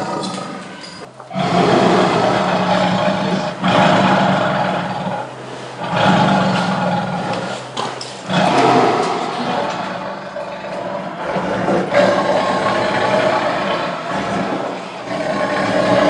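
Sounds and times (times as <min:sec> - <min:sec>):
tiger roaring: 0:00.0 - 0:16.0.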